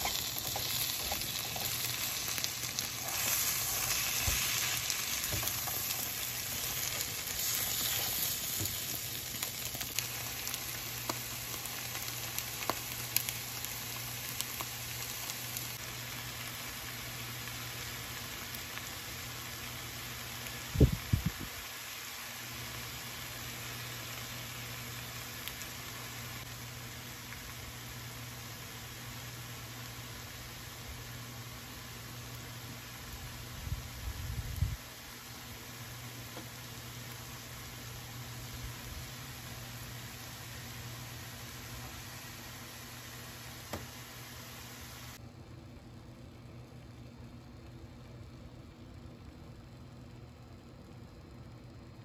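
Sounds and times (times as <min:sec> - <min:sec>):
food sizzling in a frying pan: 0:00.0 - 0:45.2.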